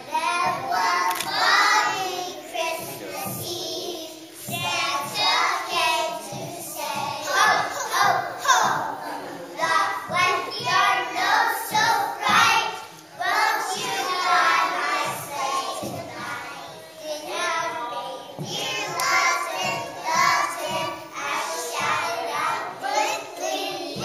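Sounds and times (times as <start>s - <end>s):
young children singing: 0.0s - 24.0s.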